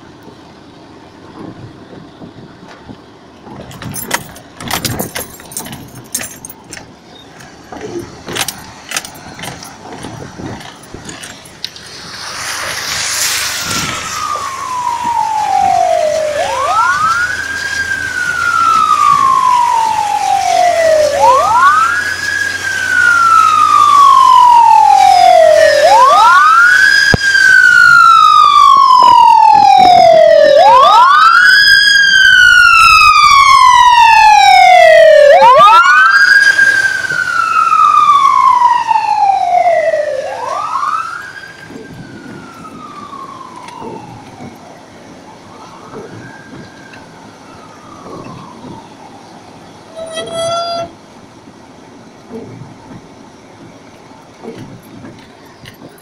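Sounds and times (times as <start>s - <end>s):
emergency siren wailing: 0.0s - 56.0s.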